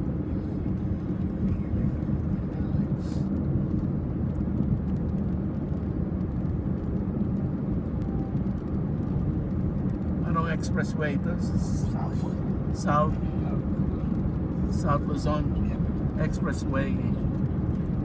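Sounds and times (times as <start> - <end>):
car cabin road noise: 0.0 - 18.0.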